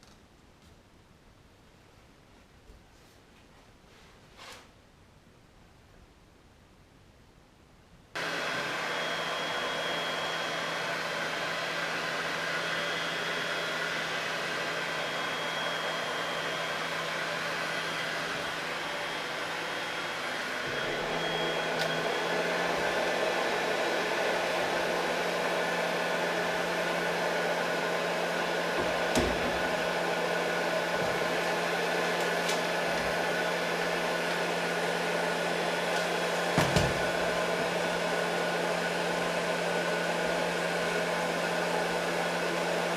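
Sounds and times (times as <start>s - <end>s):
electric motor humming: 8.2s - 42.8s.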